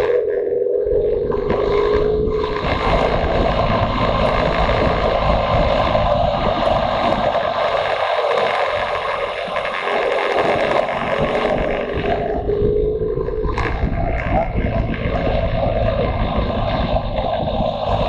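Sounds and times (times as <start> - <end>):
motorcycle engine rumbling: 0.0 - 18.0
wind rushing over microphone: 0.0 - 18.0.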